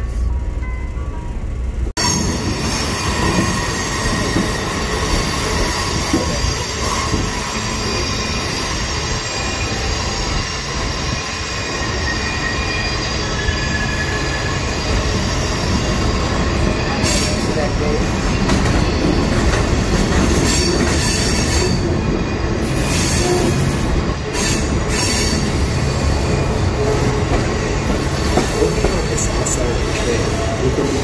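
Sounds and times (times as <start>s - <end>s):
train wheels rumbling on track: 0.0s - 31.0s
high wheel squeal: 2.0s - 31.0s.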